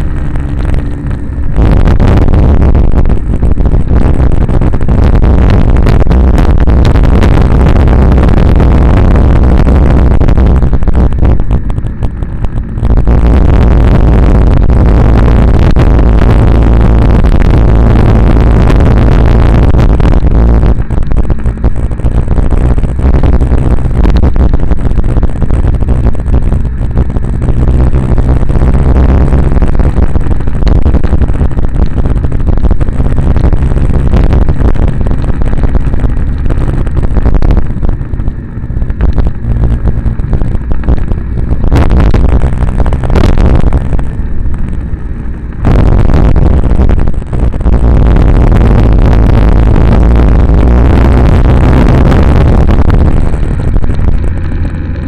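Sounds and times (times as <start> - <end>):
low steady hum: 0.0 - 55.0
road rumble: 0.0 - 55.0.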